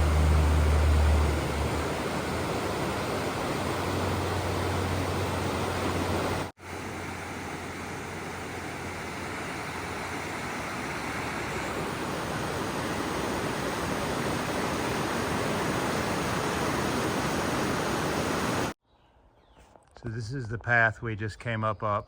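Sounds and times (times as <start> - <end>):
fast-flowing water rushing: 0.0 - 18.8.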